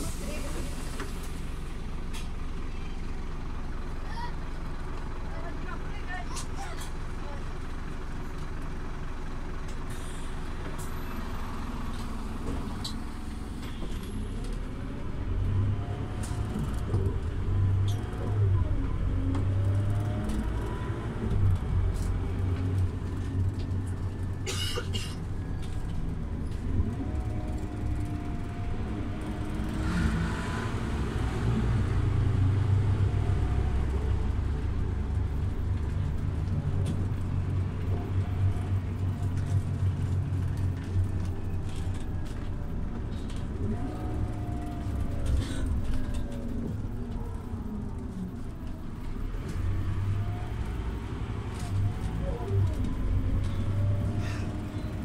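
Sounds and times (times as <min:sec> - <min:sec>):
bus engine drone: 0:00.0 - 0:55.0
bus whine: 0:00.0 - 0:55.0.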